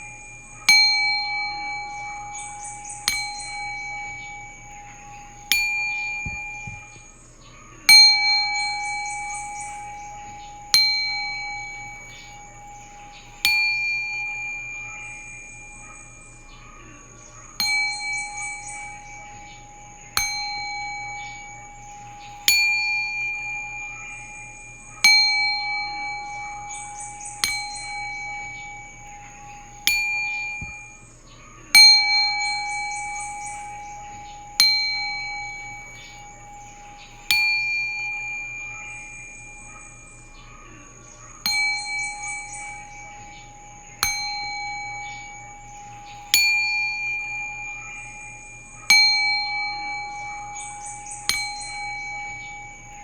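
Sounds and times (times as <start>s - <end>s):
singing bowl ringing: 0.0s - 53.0s.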